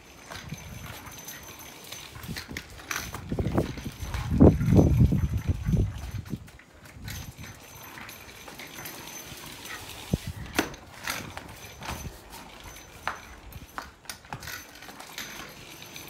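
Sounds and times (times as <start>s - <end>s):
kick scooter rolling over tiles: 0.0s - 16.0s.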